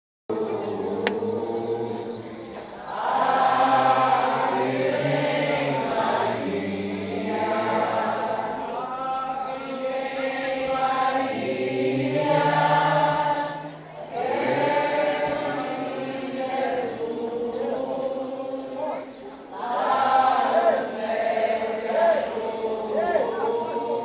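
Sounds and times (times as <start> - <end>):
group singing a hymn: 0.3 - 24.0.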